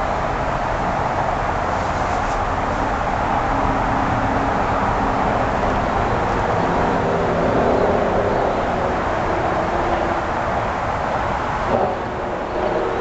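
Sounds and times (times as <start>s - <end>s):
faint engine hum: 0.0s - 13.0s
road traffic rumble: 0.0s - 13.0s.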